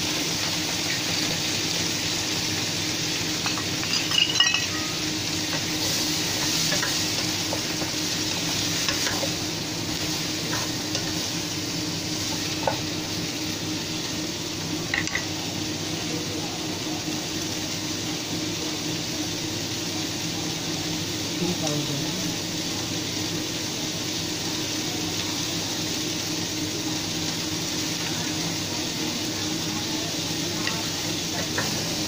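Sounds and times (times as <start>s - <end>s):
vegetables sizzling in a frying pan: 0.0s - 32.0s.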